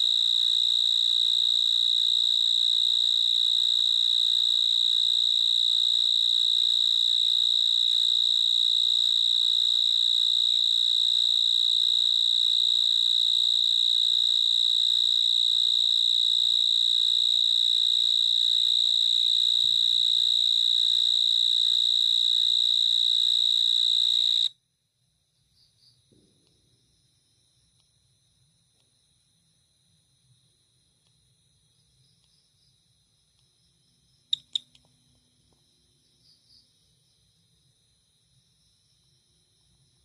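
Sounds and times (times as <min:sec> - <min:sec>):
cricket trilling: 0:00.0 - 0:24.6, 0:30.2 - 0:40.0.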